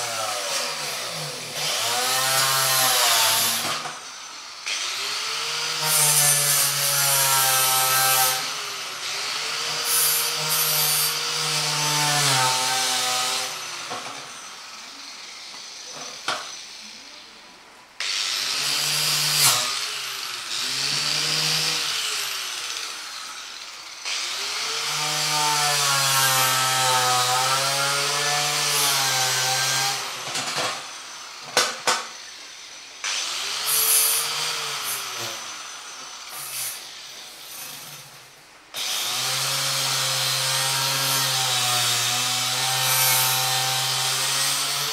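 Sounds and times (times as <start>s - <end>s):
electric paint spray gun: 0.0s - 17.2s, 18.0s - 25.9s, 26.8s - 38.2s.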